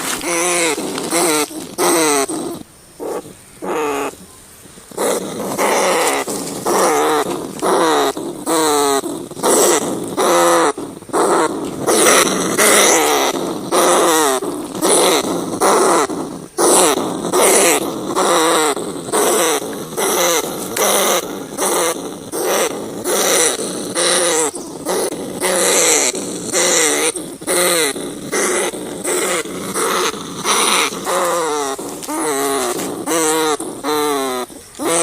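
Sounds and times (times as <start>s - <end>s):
rat calling: 0.0s - 35.0s.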